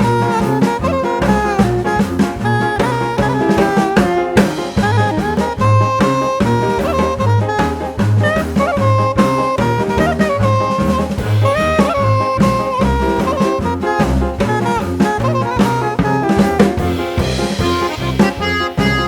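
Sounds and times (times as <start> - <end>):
bass line: 0.0 - 19.0
drum kit beat: 0.0 - 19.0
saxophone melody: 0.0 - 19.0.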